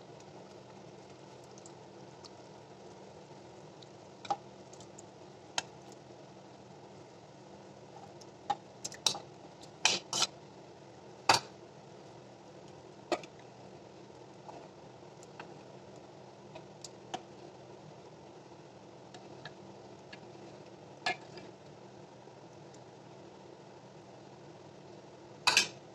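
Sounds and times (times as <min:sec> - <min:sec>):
low steady hiss: 0:00.0 - 0:25.9.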